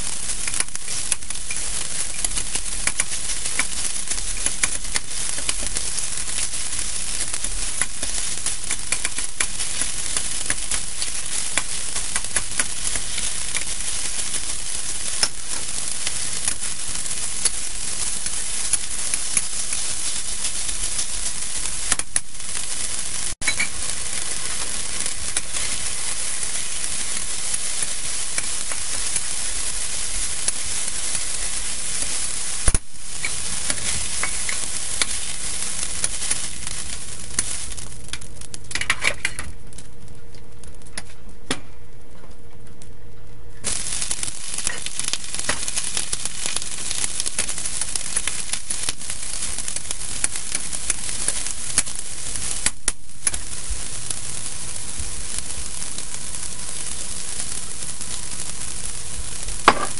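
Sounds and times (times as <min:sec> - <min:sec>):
chicken sizzling in hot oil: 0:00.0 - 0:40.0, 0:43.6 - 0:59.9.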